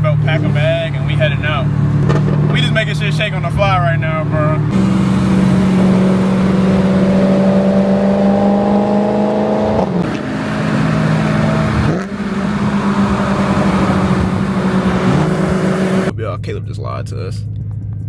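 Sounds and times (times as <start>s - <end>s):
car engine accelerating: 0.0s - 16.1s.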